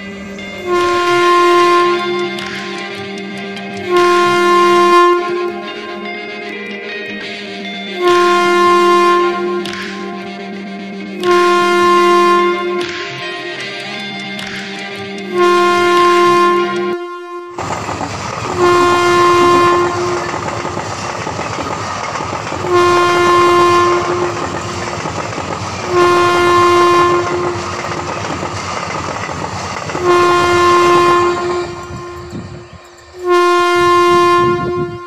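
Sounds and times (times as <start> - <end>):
train horn blasts: 0.0 - 13.3, 15.2 - 21.0, 22.5 - 29.0, 29.9 - 35.0
train wheels rumbling on rails: 0.0 - 35.0.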